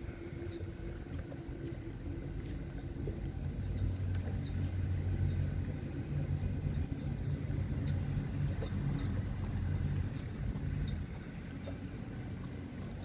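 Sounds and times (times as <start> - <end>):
low engine hum: 0.0 - 13.0
faint ticks: 0.4 - 13.0.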